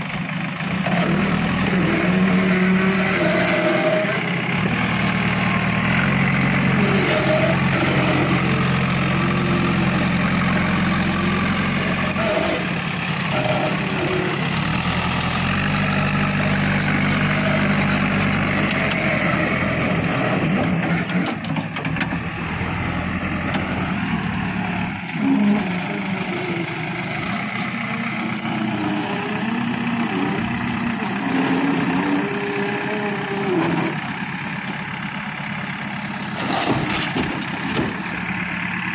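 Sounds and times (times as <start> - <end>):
diesel machinery engine idling: 0.0 - 38.9.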